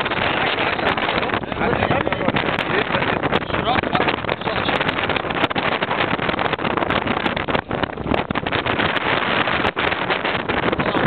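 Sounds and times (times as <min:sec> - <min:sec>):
motorboat engine running: 0:00.0 - 0:11.0
wind and water rushing: 0:00.0 - 0:11.0.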